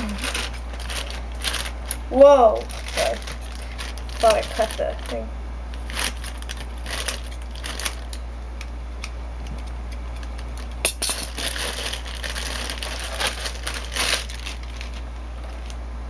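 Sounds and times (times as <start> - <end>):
plastic wrapping crinkling: 0.0 - 8.3, 10.0 - 15.8.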